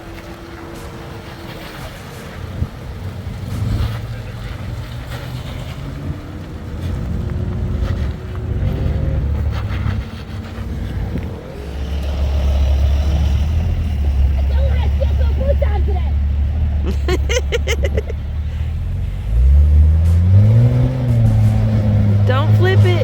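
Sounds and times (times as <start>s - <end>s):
off-road vehicle engine rumbling: 0.0s - 23.0s.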